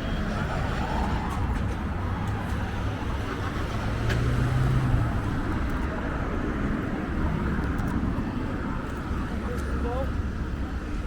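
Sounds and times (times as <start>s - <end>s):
road traffic passing: 0.0s - 11.0s
vehicle engine: 0.0s - 11.0s.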